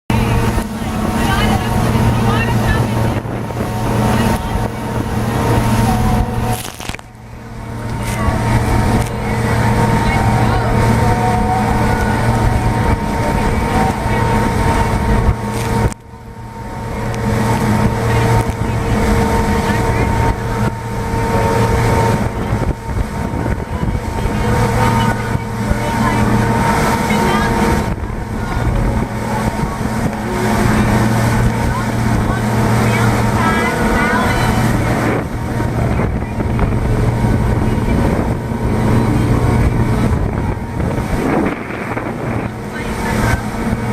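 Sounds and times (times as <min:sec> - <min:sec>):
motorboat engine running: 0:00.0 - 0:43.9
wind on microphone: 0:00.1 - 0:43.9.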